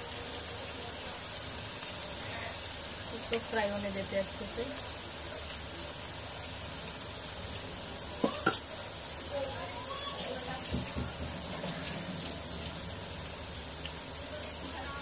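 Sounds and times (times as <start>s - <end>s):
food sizzling in hot oil: 0.0s - 6.5s, 7.1s - 15.0s.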